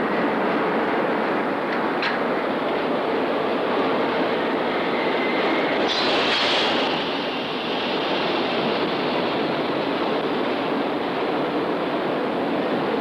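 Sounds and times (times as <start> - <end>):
engine-room machinery roar: 0.0 - 13.0.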